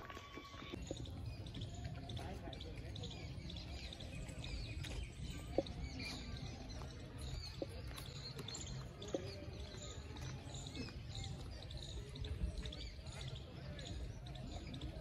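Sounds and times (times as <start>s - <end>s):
small birds chirping: 0.3s - 15.0s.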